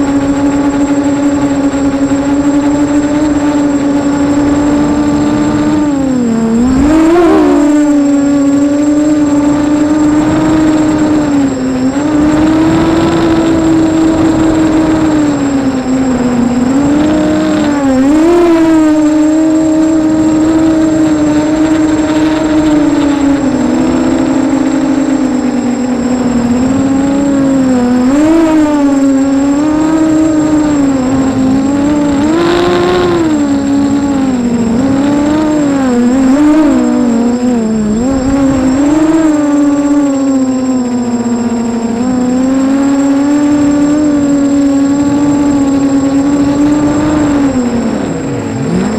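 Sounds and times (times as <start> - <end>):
drone motors whining: 0.0 - 48.9.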